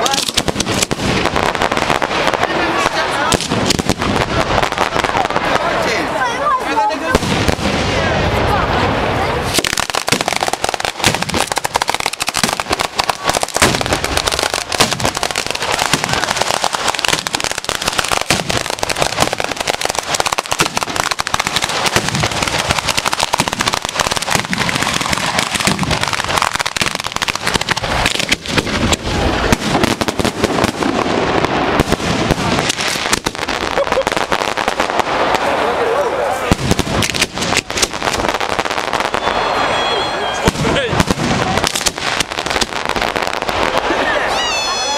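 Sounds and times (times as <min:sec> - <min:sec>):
firecrackers going off rapidly: 0:00.0 - 0:44.9.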